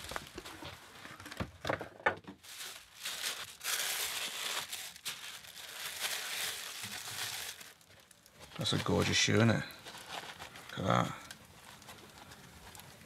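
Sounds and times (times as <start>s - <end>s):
tissue paper rustling: 0.0s - 1.0s, 2.4s - 13.0s.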